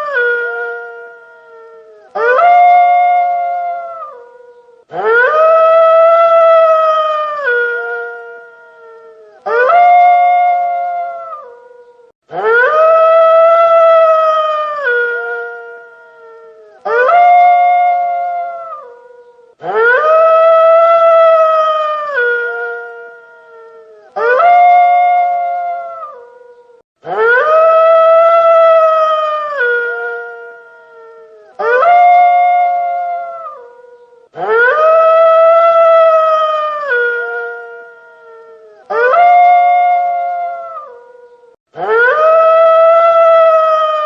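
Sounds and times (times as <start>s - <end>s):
wolf howling: 0.0s - 44.0s.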